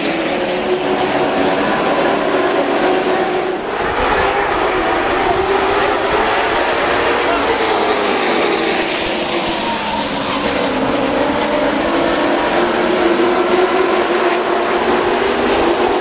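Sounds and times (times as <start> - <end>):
stock car engines racing past: 0.0 - 16.0.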